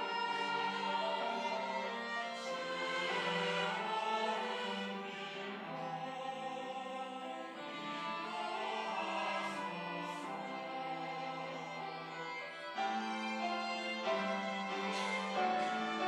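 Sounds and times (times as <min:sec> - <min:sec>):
choir singing: 0:00.0 - 0:16.0
violins playing: 0:00.0 - 0:16.0.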